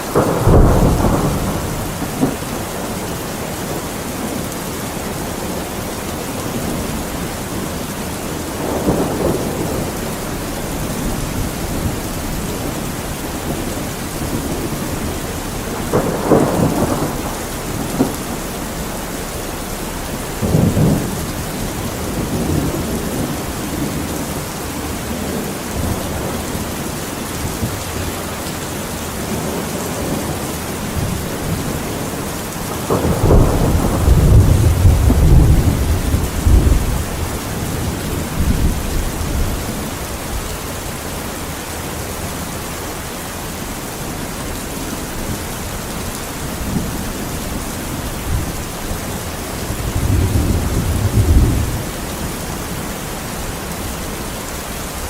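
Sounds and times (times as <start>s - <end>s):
rolling thunder: 0.0s - 40.9s, 44.1s - 55.0s
heavy rain: 0.0s - 55.0s.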